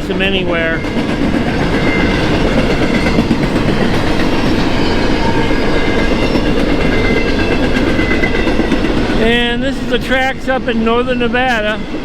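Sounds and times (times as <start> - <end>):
freight train wheels on rail: 0.0 - 12.0.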